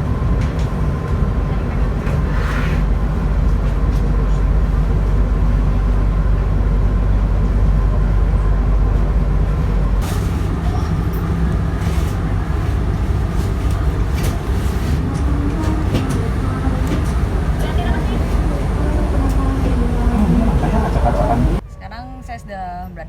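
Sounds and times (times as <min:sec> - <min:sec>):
diesel train engine rumbling: 0:00.0 - 0:23.0.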